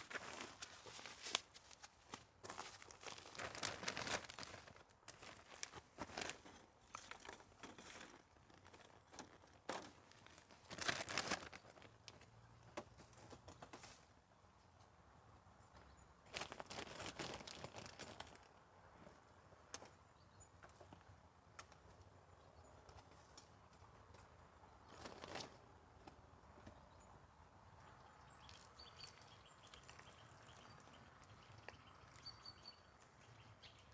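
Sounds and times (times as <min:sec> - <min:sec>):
soft rustling and crinkling: 0:00.0 - 0:14.9, 0:15.7 - 0:20.0, 0:22.8 - 0:26.9, 0:27.7 - 0:33.9.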